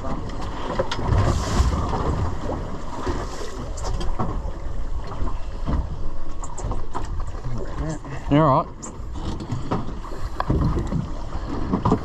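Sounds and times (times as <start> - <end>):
water slapping hull: 0.0 - 12.0.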